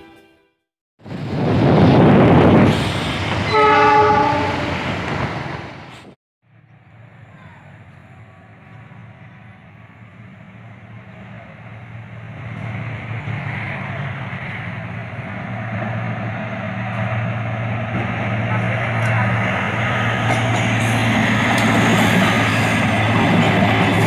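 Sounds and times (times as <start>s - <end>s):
passenger train approaching: 1.0s - 24.0s
rail noise: 1.0s - 24.0s.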